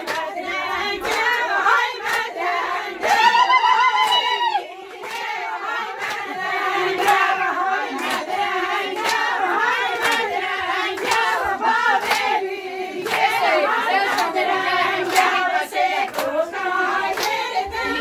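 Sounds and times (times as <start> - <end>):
handclaps keeping beat: 0.0 - 18.0
women singing together: 0.0 - 18.0.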